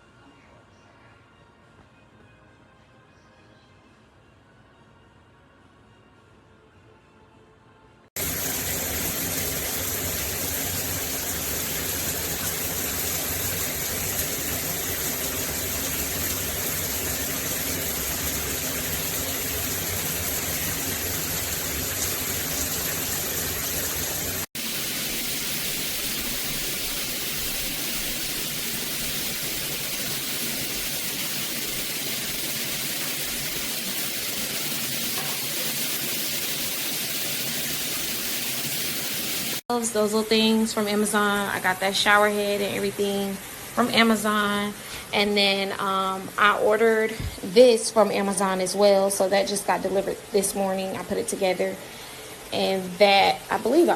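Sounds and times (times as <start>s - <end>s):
shower water running: 8.2s - 53.9s.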